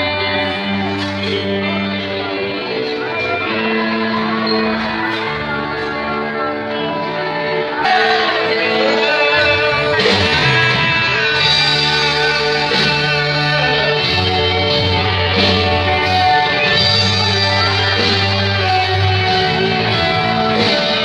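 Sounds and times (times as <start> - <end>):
bass line of held notes: 0.0 - 21.0
guitar music: 0.0 - 21.0.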